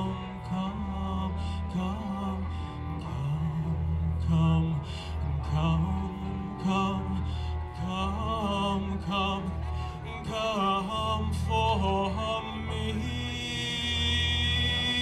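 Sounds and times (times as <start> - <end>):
cello playing: 0.0 - 15.0
guitar playing: 0.0 - 15.0.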